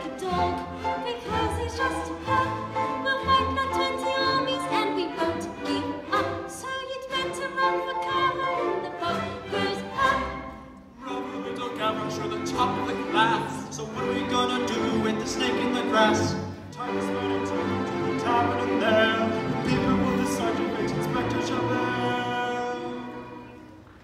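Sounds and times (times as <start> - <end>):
string orchestra playing ballad: 0.0 - 24.0.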